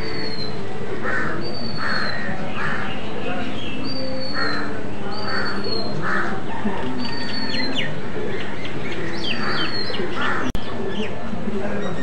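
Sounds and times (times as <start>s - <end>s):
rough noisy bird calls: 0.0s - 12.0s.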